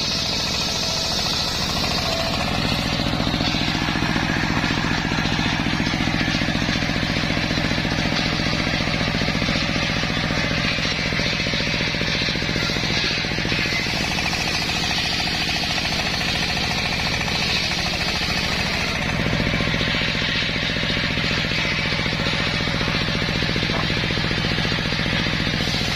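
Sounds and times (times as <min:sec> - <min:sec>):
engine-driven circular saw running: 0:00.0 - 0:25.9.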